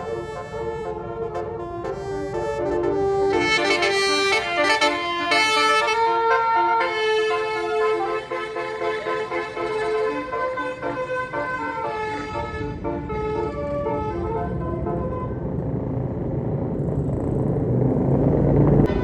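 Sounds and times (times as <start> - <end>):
musical bus horn melody: 0.0 - 15.5
bus engine rumble: 0.0 - 19.0.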